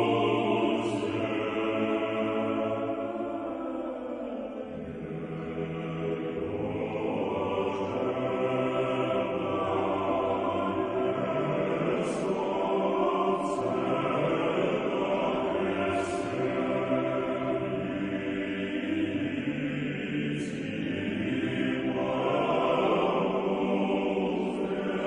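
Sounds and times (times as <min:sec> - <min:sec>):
choir singing a slow chant: 0:00.0 - 0:25.0.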